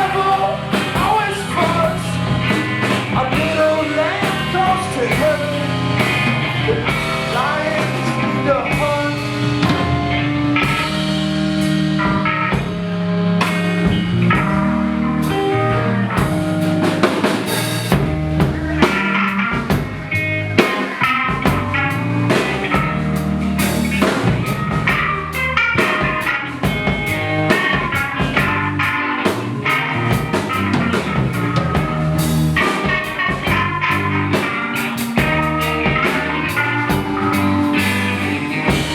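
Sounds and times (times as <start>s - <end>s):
rock band instrumental: 0.0s - 38.9s.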